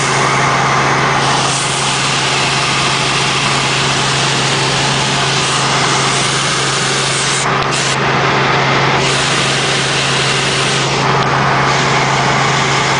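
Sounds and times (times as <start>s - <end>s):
helicopter drone: 0.0s - 12.9s.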